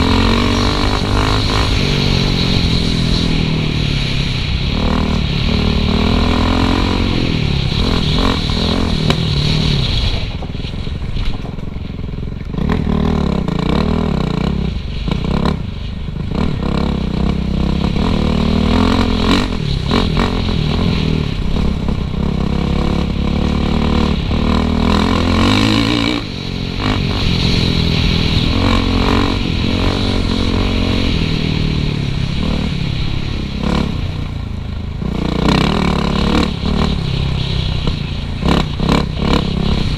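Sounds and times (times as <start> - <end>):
dirt bike engine revving: 0.0 - 10.4, 12.4 - 15.6, 16.2 - 34.4, 35.0 - 39.9.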